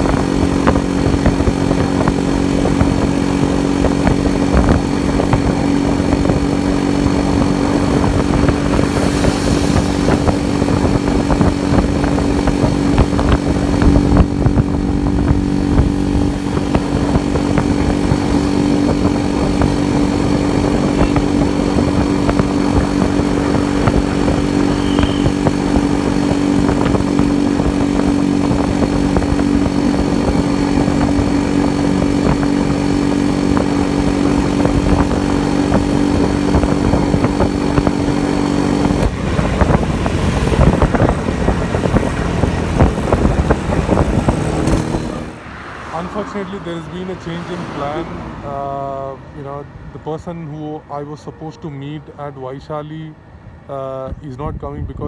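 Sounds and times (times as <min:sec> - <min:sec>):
wind buffeting microphone: 0:00.0 - 0:48.8
motorcycle engine cruising: 0:00.0 - 0:54.2.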